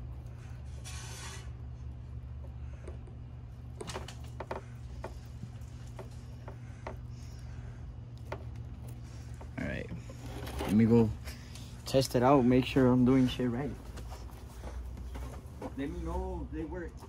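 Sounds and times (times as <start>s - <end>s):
wires rustling: 0.0s - 16.0s
steady low hum: 0.0s - 17.0s.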